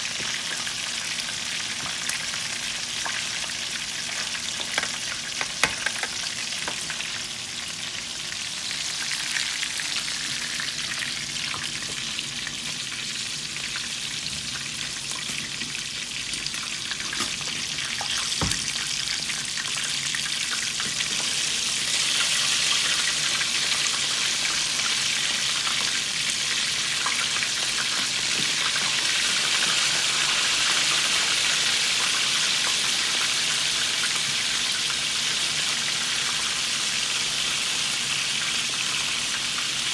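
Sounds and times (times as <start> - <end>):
chicken frying in hot oil: 0.0 - 39.9.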